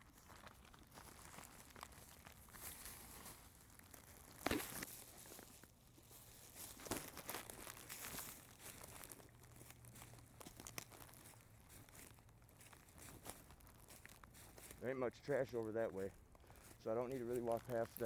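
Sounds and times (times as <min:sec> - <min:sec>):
plastic bag crinkling: 0:00.0 - 0:18.0
sharp crackles: 0:00.1 - 0:18.0.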